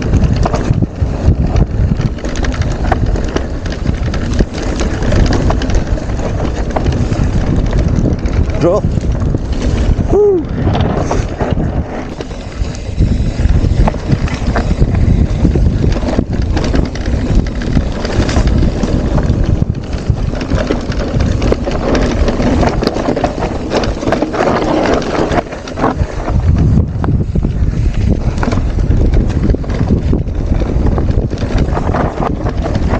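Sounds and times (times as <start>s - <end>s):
bike clattering over rocks: 0.0s - 32.9s
wind buffeting microphone: 0.0s - 32.9s.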